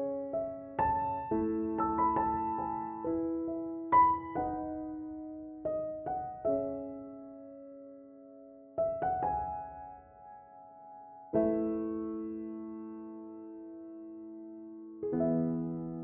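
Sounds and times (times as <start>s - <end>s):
soft solo piano music: 0.0s - 16.0s.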